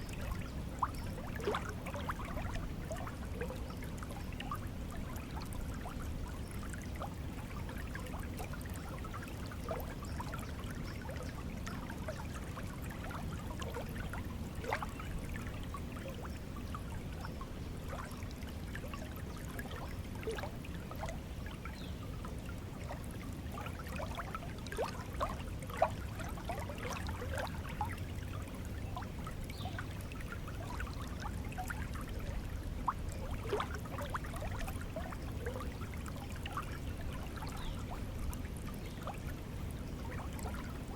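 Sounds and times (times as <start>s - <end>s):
stream water running and trickling: 0.0s - 40.9s.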